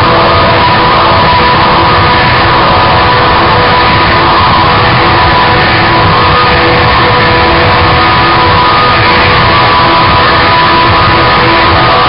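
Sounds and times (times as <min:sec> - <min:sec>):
distorted rock music: 0:00.0 - 0:12.0.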